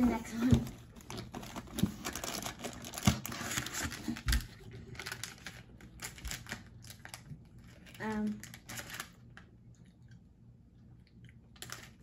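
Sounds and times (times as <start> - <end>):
plastic wrappers crinkling: 0.0 - 9.5, 11.5 - 12.0.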